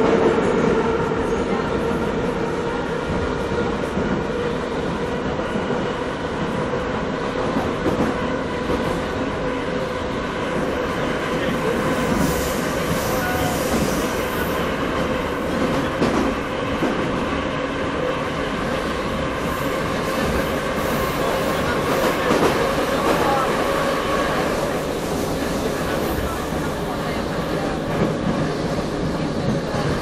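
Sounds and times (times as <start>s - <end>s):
train rumble and rattle: 0.0s - 30.0s.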